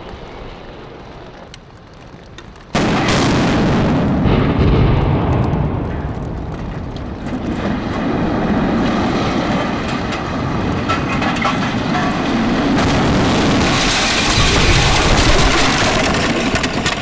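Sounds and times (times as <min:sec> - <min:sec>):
heavy rumble with cracking: 0:00.0 - 0:17.0.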